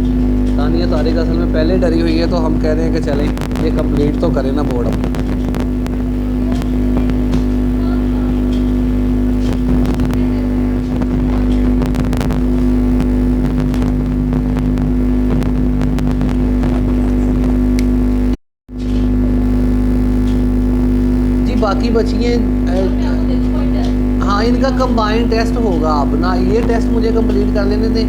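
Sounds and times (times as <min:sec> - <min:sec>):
loud machine hum: 0:00.0 - 0:28.0.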